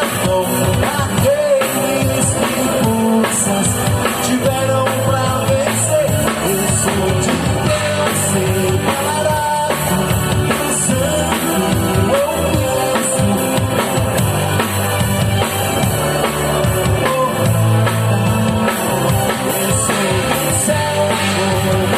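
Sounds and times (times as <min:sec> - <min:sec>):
live gospel band music: 0:00.0 - 0:21.9.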